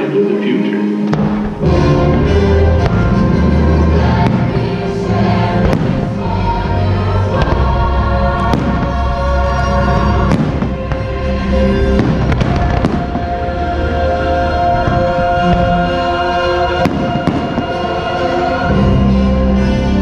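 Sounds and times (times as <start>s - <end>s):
music soundtrack: 0.0s - 20.0s
fireworks bangs: 1.1s - 14.0s, 14.7s - 18.7s.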